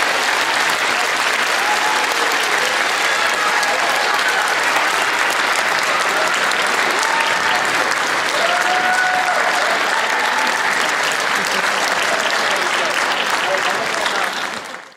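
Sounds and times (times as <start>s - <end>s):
audience applauding: 0.0s - 14.9s
faint voices: 0.0s - 14.9s.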